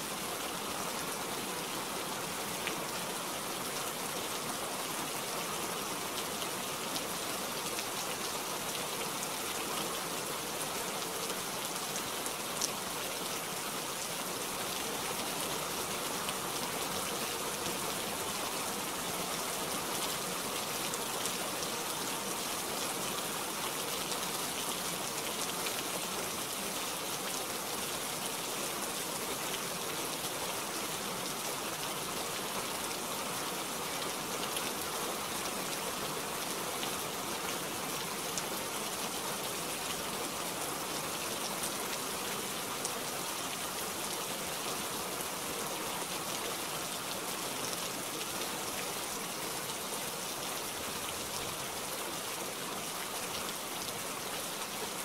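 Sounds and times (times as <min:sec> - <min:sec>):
gentle rain: 0:00.0 - 0:55.0.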